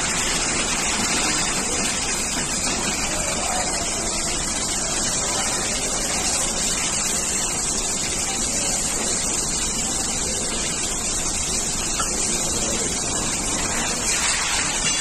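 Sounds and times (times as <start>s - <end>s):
machinery rushing hiss: 0.0s - 15.0s.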